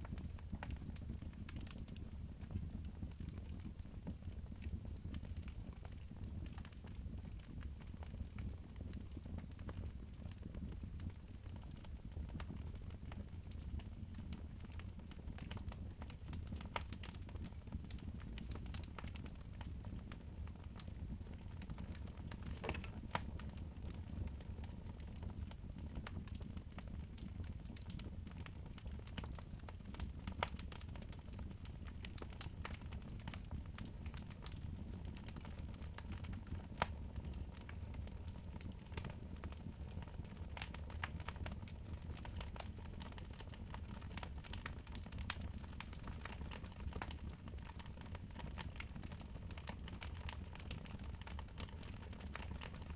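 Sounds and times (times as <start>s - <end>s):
wood fire crackling in fireplace: 0.0s - 52.9s.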